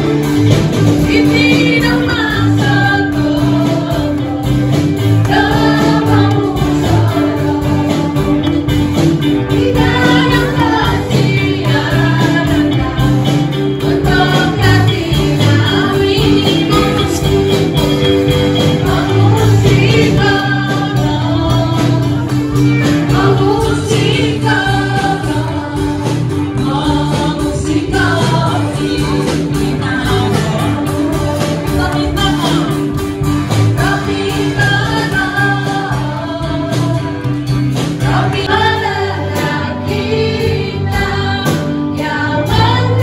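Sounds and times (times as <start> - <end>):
worship band with electric guitar: 0.0 - 43.0
women singing gospel: 0.1 - 43.0.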